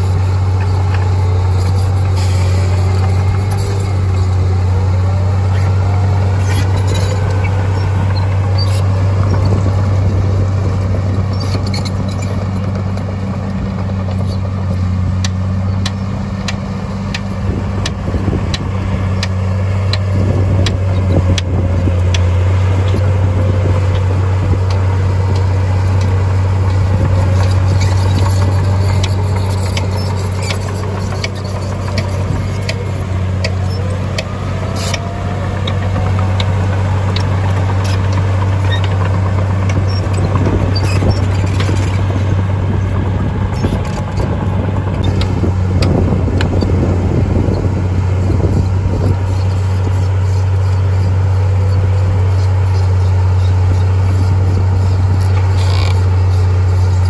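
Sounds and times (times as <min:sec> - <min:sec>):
heavy diesel machinery droning: 0:00.0 - 0:57.0.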